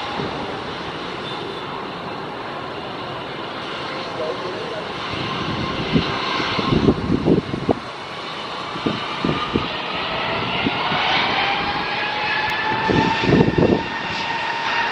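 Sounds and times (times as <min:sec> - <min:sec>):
jet engines whining: 0:00.0 - 0:14.9.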